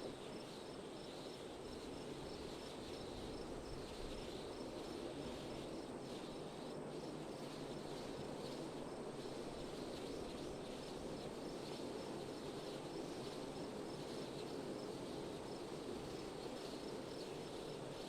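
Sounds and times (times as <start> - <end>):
insects chirping faintly: 0.0 - 18.0.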